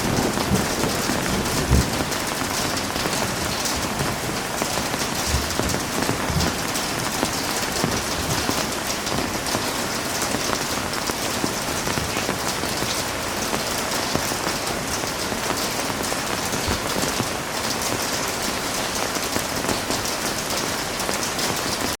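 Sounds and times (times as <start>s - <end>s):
heavy rain on hard surfaces: 0.0s - 22.0s.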